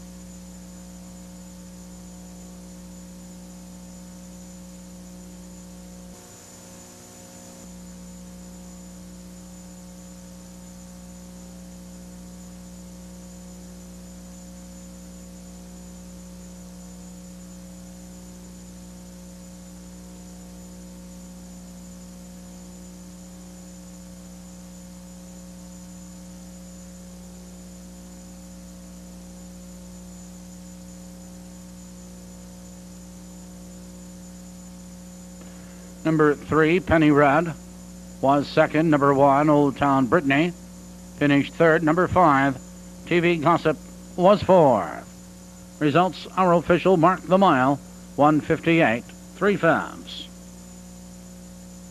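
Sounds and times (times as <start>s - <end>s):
electrical mains hum: 0.0s - 51.9s
faint high whine: 0.0s - 51.9s.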